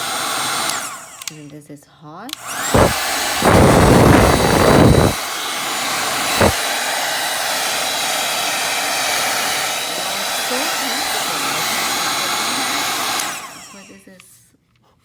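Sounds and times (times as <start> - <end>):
hair dryer blowing: 0.0 - 1.4, 2.3 - 14.2.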